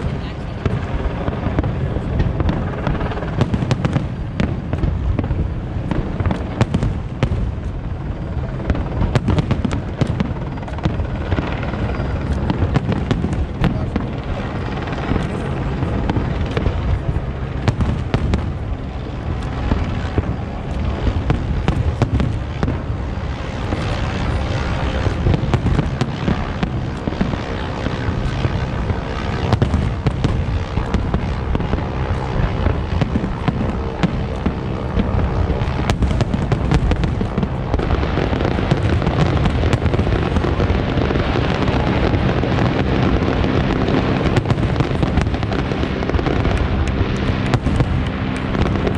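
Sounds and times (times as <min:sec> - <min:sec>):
firework booms: 0:00.0 - 0:07.8, 0:08.4 - 0:48.9
fireworks crackling: 0:00.0 - 0:48.9.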